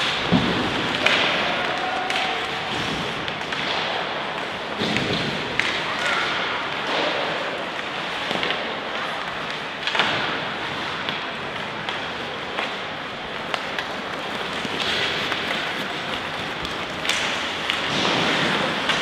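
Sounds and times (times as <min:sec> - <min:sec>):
hockey sticks and puck knocking boards: 0:00.0 - 0:19.0.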